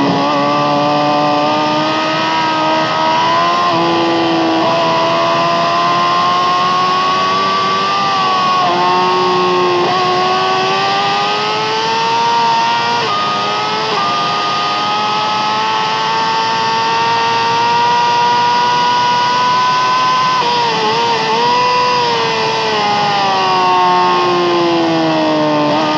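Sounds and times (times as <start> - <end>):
motorcycle engine accelerating hard: 0.0 - 25.9.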